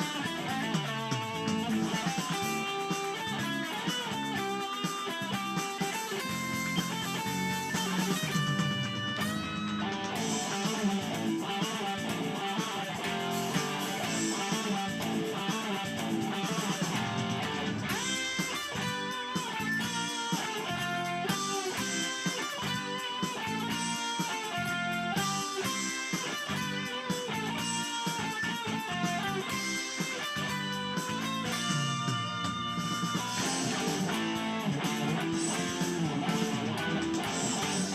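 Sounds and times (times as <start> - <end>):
plucked electric guitar melody: 0.0 - 37.9.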